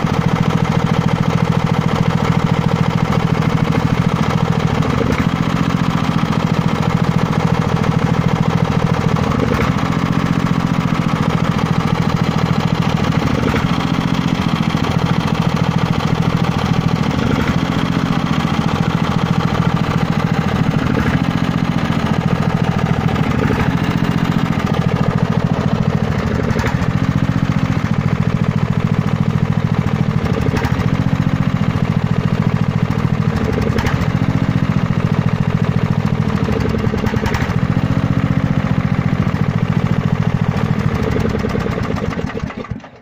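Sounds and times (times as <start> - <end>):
lawn mower engine running: 0.0 - 43.0.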